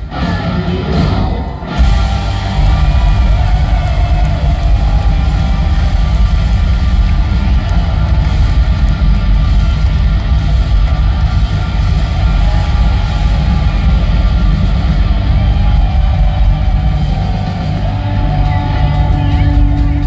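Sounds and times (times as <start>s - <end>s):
live hard rock band: 0.0s - 20.0s.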